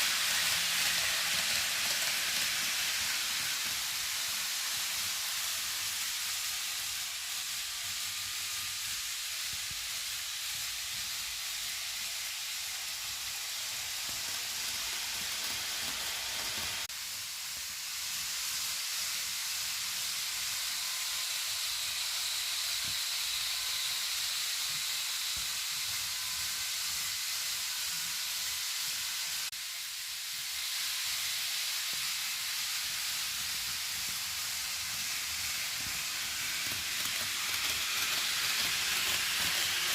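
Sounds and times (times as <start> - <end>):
model train motor whirring: 0.0 - 39.9.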